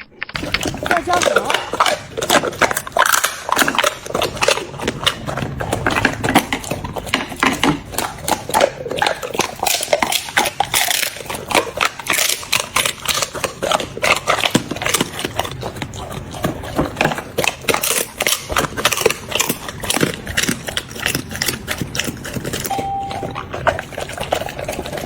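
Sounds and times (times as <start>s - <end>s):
dog crunching a chew: 0.3s - 25.0s.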